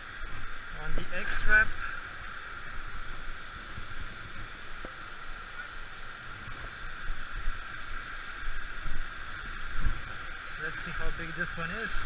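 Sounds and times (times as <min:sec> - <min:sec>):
water rushing over dam spillway: 0:00.0 - 0:12.0.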